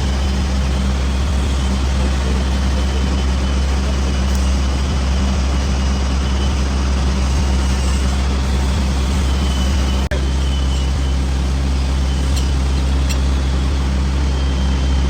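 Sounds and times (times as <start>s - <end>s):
lathe humming: 0.0s - 15.0s.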